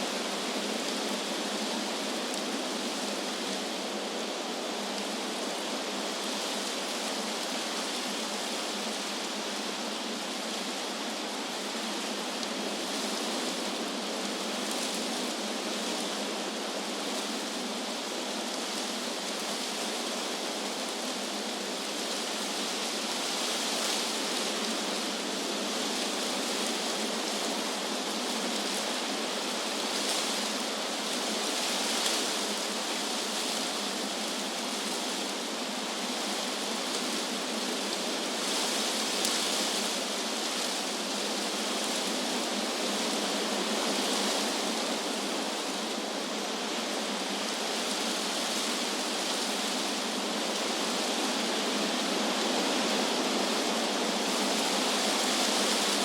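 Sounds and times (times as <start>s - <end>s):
wind rustling leaves: 0.0s - 56.0s.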